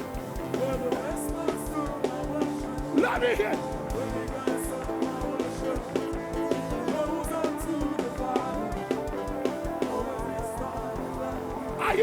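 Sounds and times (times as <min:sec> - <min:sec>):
steady drum beat: 0:00.0 - 0:12.0
worship band held chords: 0:00.0 - 0:12.0.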